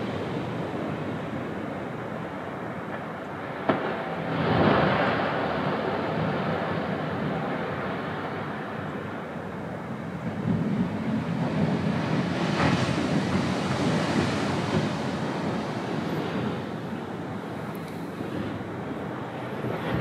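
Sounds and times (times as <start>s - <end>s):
waves breaking on sand beach: 0.0s - 20.0s.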